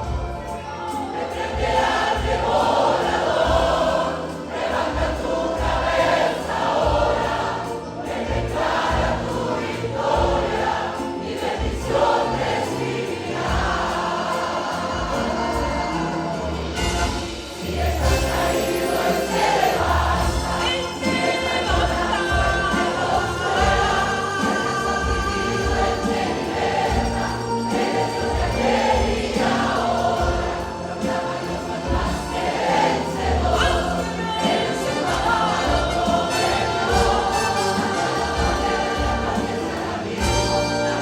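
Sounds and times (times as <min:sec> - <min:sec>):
band accompaniment: 0:00.0 - 0:41.0
choir singing worship song: 0:00.0 - 0:41.0.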